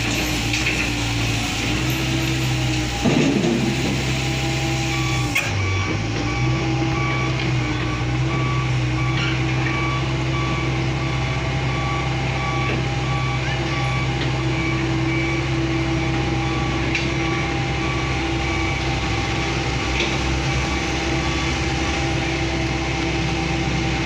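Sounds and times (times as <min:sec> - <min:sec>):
heavy machine engine running: 0:00.0 - 0:24.0
reverse alarm beeping: 0:01.7 - 0:22.4.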